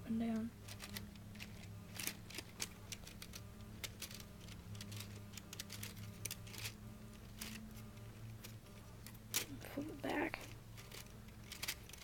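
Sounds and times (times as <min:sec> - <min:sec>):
plastic gears clicking: 0:00.6 - 0:09.6, 0:10.3 - 0:12.0.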